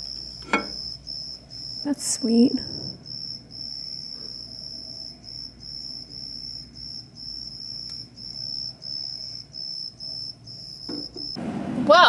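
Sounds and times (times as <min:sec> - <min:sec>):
high-pitched cricket-like trill: 0:00.0 - 0:11.4.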